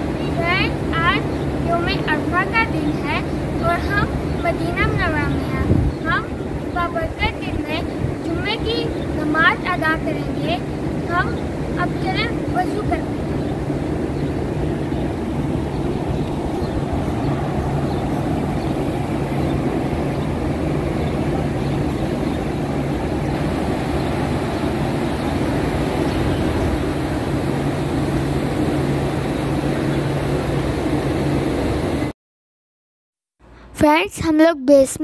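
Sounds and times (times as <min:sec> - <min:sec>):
low hum: 0:00.0 - 0:32.1
steady rushing noise: 0:00.0 - 0:32.1.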